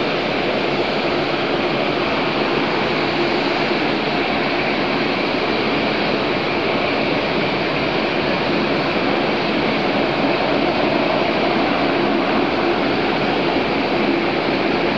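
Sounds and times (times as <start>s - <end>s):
jet engines rumbling and hissing: 0.0s - 14.9s.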